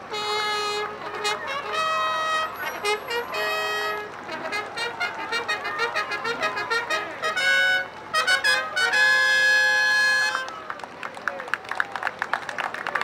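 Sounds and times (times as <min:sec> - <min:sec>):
trumpets playing a fanfare: 0:00.0 - 0:10.6.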